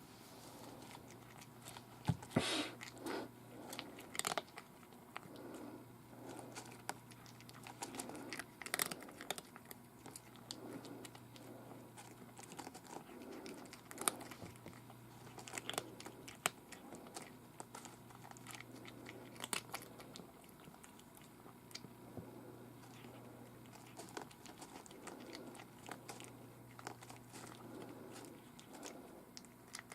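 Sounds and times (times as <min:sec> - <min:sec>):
cat chewing food: 0:00.3 - 0:29.9.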